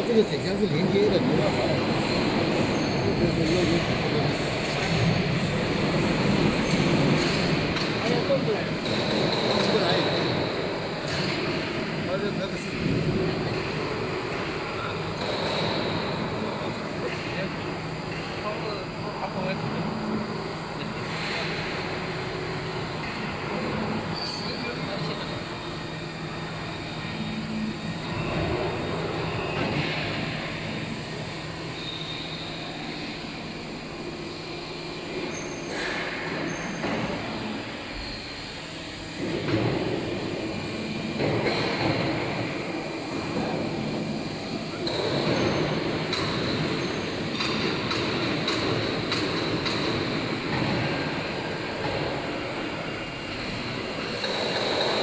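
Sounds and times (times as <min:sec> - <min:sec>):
milling machine humming: 0:00.0 - 0:55.0.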